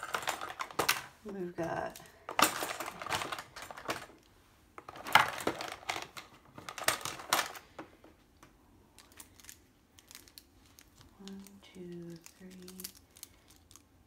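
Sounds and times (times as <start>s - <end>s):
plastic packaging crinkling: 0.0s - 4.2s, 4.8s - 7.8s, 9.0s - 14.0s.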